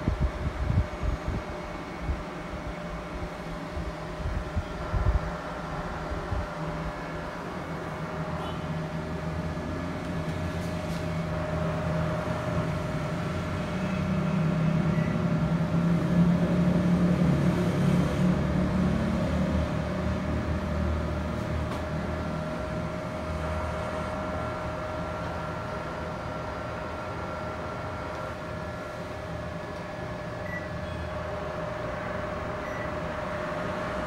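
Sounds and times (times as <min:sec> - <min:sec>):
air conditioner hum and airflow: 0:00.0 - 0:34.0
constant whine: 0:00.0 - 0:34.0.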